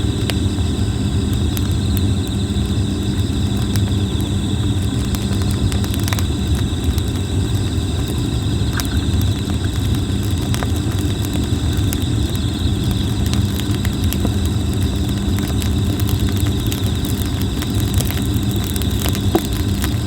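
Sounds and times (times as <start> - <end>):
campfire crackling and popping: 0.0 - 20.0
insects trilling: 0.0 - 20.0.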